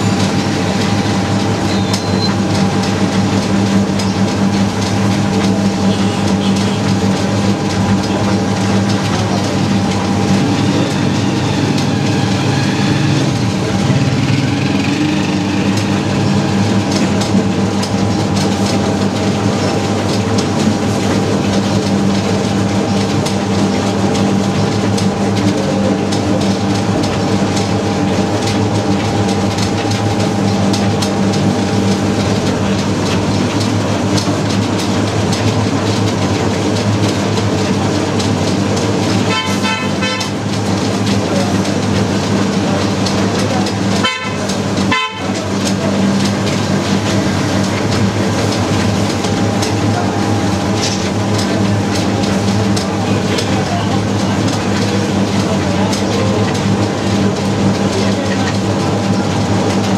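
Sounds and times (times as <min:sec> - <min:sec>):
grinding machine rattling clatter: 0:00.0 - 0:59.9.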